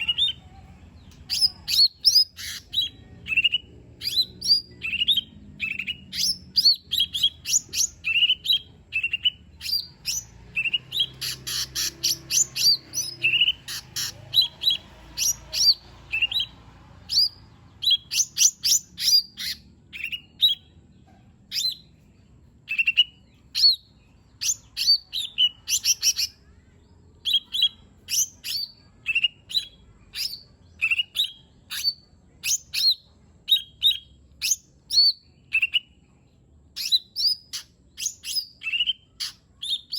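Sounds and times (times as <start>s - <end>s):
bird singing whistled notes: 1.3s - 20.7s, 22.7s - 26.4s, 27.2s - 36.0s, 36.8s - 39.9s.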